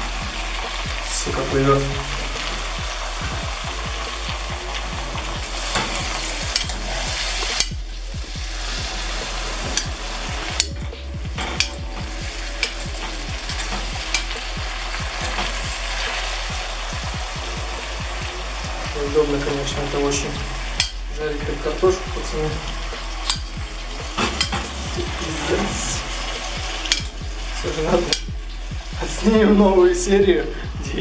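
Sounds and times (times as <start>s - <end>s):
potatoes sizzling in oil: 0.0s - 30.6s.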